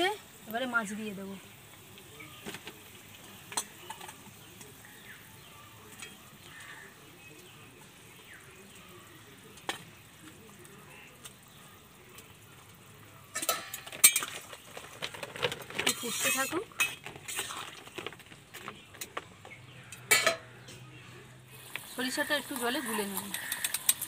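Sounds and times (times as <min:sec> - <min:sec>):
curry boiling in a wok: 0:00.0 - 0:24.0.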